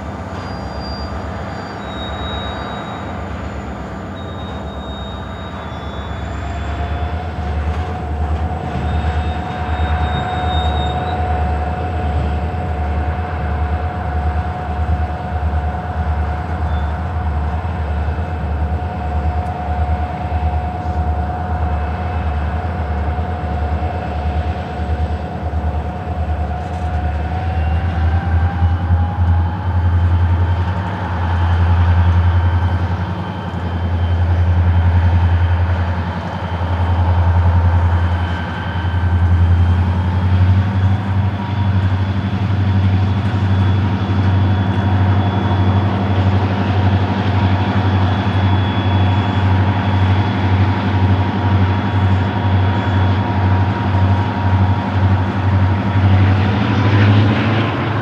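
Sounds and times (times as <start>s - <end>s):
diesel locomotive engines rumbling: 0.0s - 58.0s
rising engine whine: 0.0s - 58.0s.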